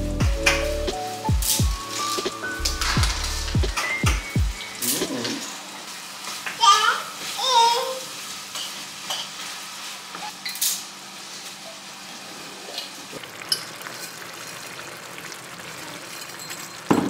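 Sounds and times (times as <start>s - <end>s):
sauce sizzling in a frying pan: 0.3s - 17.0s
utensils clinking on pans: 0.4s - 11.8s, 12.8s - 17.0s.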